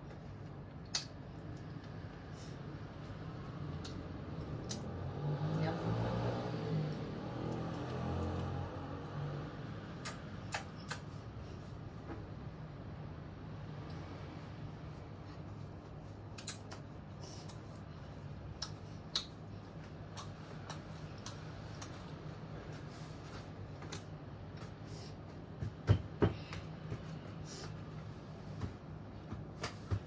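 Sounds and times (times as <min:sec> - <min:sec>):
air conditioner humming: 0:00.0 - 0:30.0.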